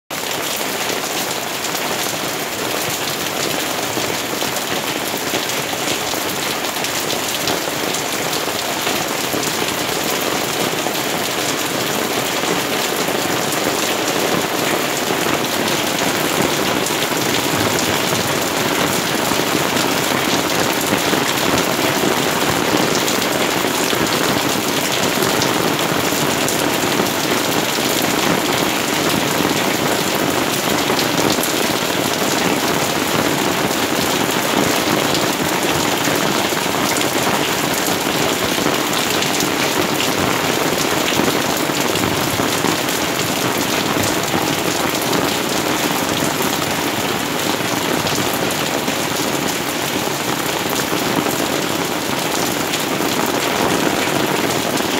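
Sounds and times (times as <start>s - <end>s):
rain on foliage and paving: 0.1s - 54.9s.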